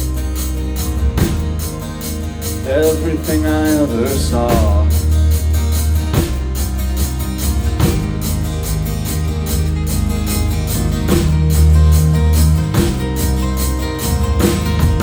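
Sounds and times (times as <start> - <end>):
crashing cymbals: 0.0 - 15.0
drum kit beat: 0.0 - 15.0
electric guitars and bass: 0.0 - 15.0.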